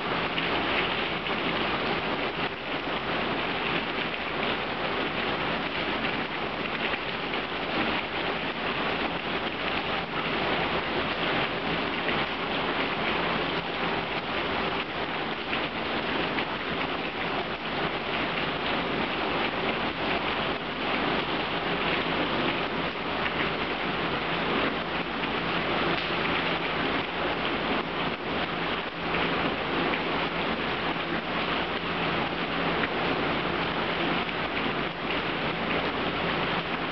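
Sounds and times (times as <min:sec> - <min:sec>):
heavy rain falling: 0:00.0 - 0:36.9
raindrops pattering on hard surfaces: 0:00.0 - 0:36.9.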